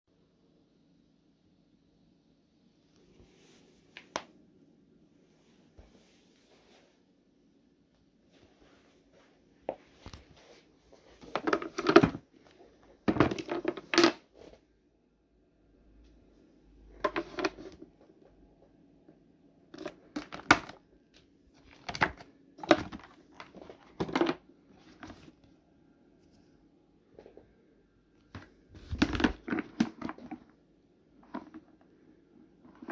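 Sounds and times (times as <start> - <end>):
faint steady hum: 0.1 - 32.9.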